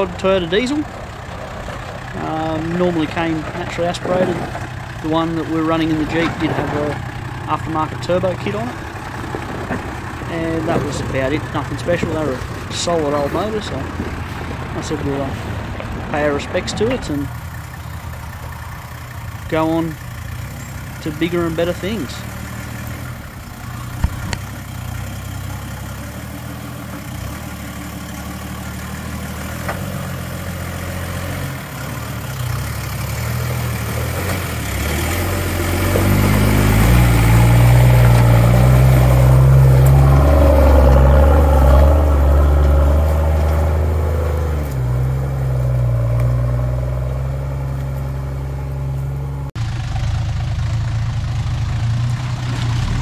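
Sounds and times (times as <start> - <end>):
diesel truck engine: 0.0 - 53.0.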